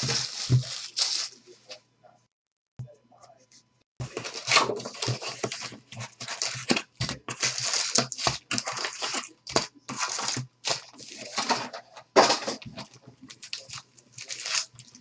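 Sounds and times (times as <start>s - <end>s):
cardboard tearing: 0.0s - 1.4s, 4.0s - 15.0s
foil wrappers crinkling: 0.0s - 1.8s, 4.0s - 15.0s.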